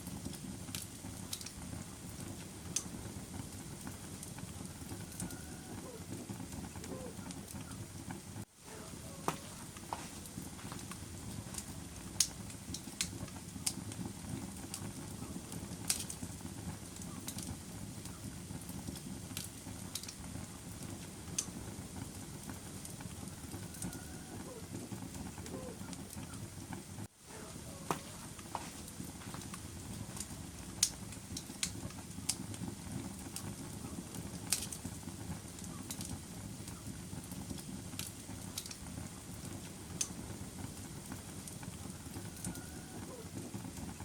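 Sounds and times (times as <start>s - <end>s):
logs crackling and popping: 0.0s - 44.0s
low rumble of flames: 0.0s - 44.0s.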